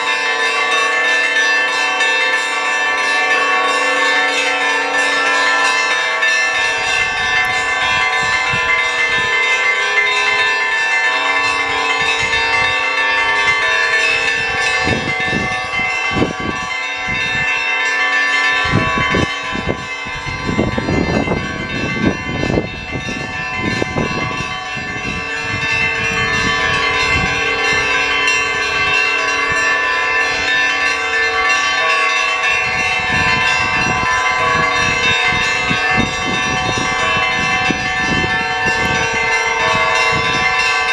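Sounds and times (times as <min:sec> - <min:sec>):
large bells pealing: 0:00.0 - 0:40.9.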